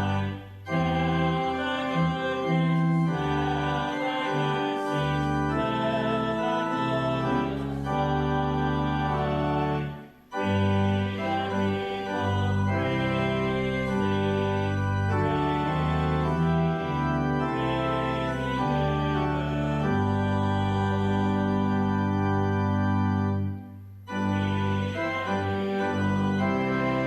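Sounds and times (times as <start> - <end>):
organ playing hymn chords: 0.0 - 27.0.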